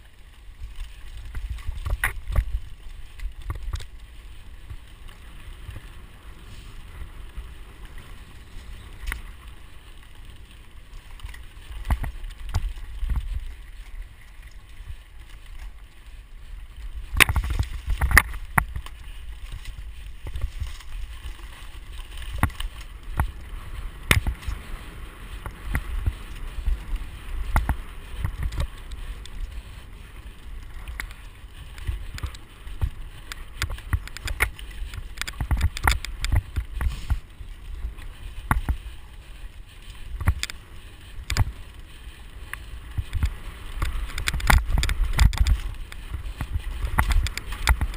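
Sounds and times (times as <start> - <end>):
bike knocking and rattling: 0.0 - 47.9
wind and ground rumble: 0.0 - 47.9.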